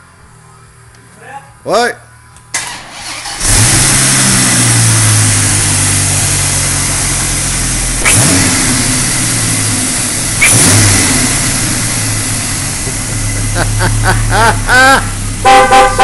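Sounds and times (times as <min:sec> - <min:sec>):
car engine idling and revving: 0:02.1 - 0:16.0.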